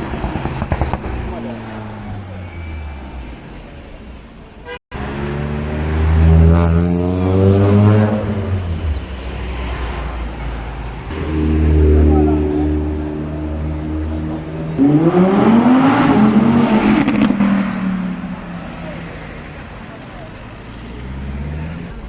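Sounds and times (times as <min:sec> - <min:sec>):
car engines driving past: 0:00.0 - 0:22.0.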